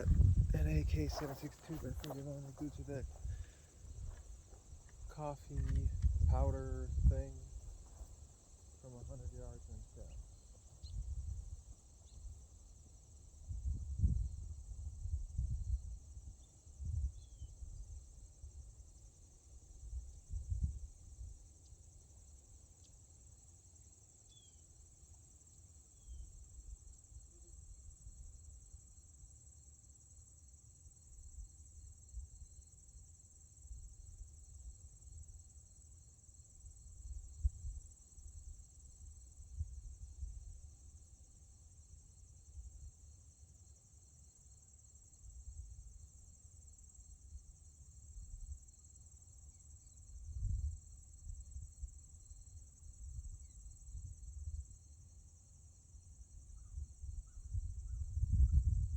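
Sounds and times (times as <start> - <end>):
insect chorus buzzing: 0.0 - 58.9.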